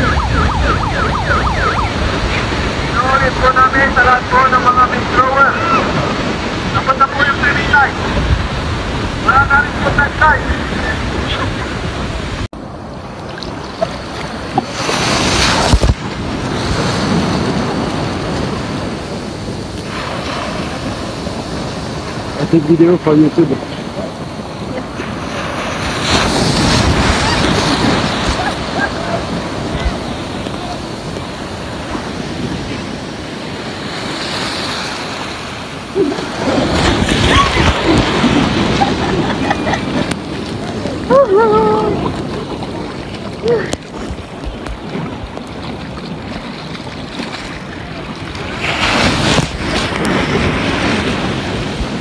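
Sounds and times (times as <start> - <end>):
waves breaking in shallow surf: 0.0 - 52.0
wind on microphone: 0.0 - 52.0.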